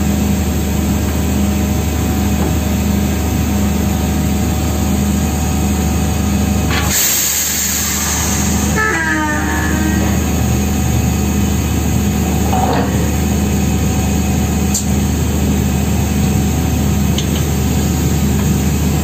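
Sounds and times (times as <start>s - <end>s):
drilling rig engine drone: 0.0s - 19.0s.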